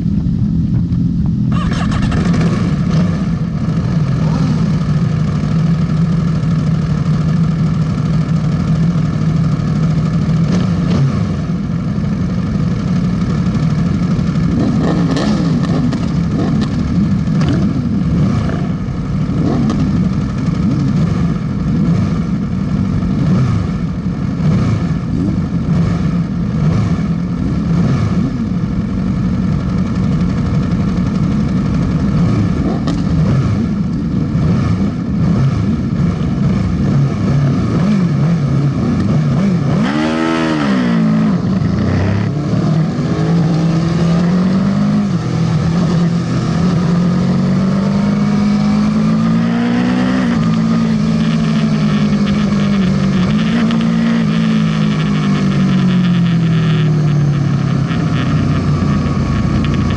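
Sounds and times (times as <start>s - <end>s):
motorcycle engine idling: 0.0s - 39.1s, 50.8s - 59.9s
engine revving: 1.4s - 12.2s, 13.0s - 59.9s.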